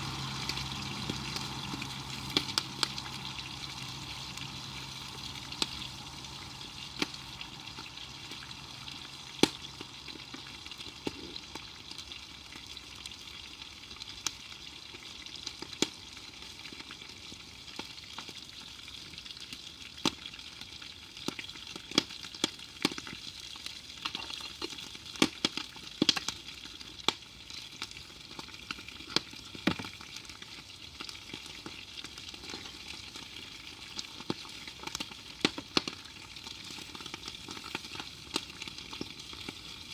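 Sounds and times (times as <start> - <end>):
fire popping and crackling: 0.0 - 39.9
food sizzling in a pan: 0.0 - 39.9.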